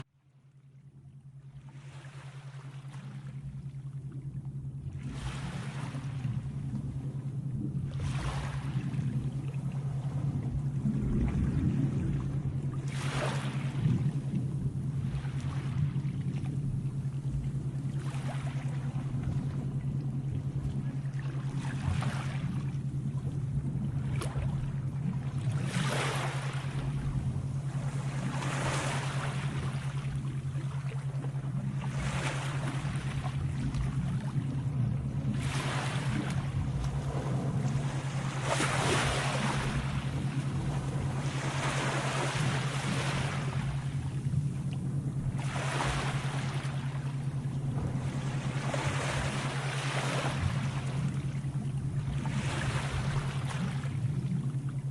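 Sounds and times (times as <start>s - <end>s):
steady low hum: 0.0s - 54.9s
sea waves washing in: 4.8s - 54.9s.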